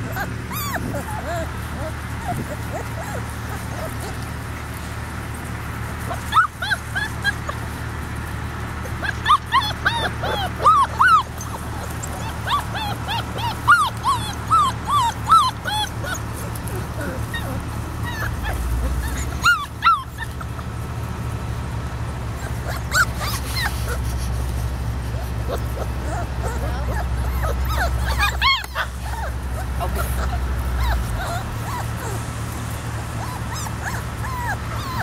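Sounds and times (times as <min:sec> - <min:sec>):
puppies whimpering and yipping: 0:00.0 - 0:21.0, 0:22.2 - 0:35.0.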